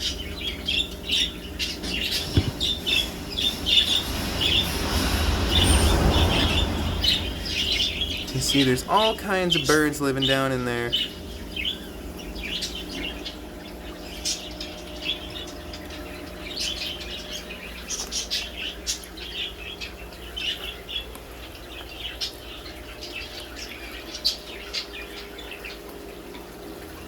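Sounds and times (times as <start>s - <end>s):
small birds chirping: 0.0s - 27.0s
steady low hum: 0.0s - 27.0s.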